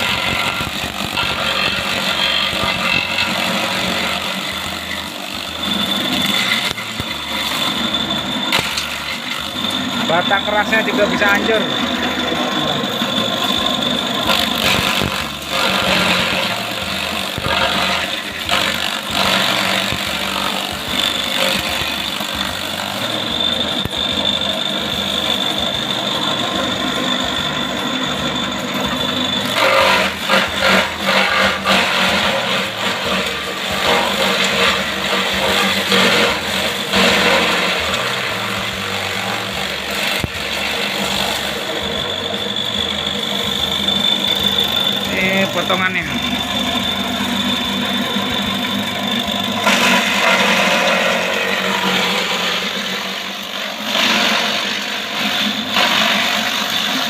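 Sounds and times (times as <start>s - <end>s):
machine high whine: 0.0s - 57.0s.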